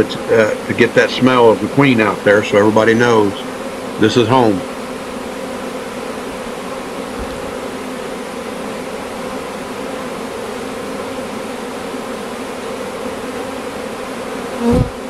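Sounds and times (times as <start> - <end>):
bee swarm humming: 0.0 - 15.0.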